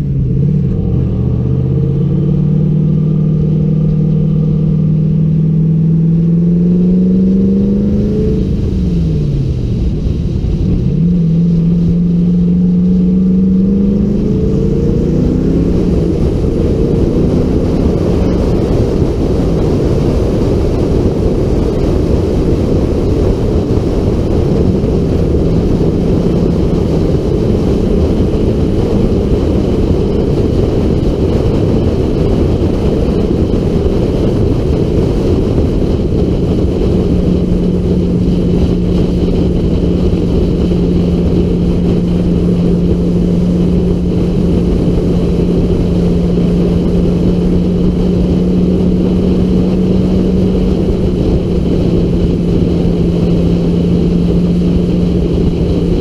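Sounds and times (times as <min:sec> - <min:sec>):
car engine at moderate revs: 0:00.0 - 0:56.0
wind rush on microphone: 0:00.0 - 0:56.0.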